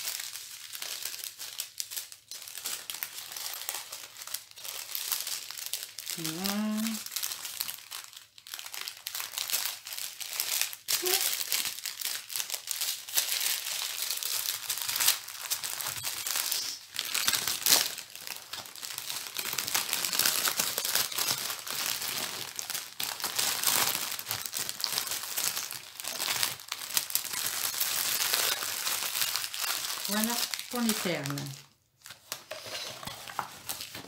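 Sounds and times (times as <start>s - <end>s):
plastic packaging crinkling: 0.0s - 34.0s.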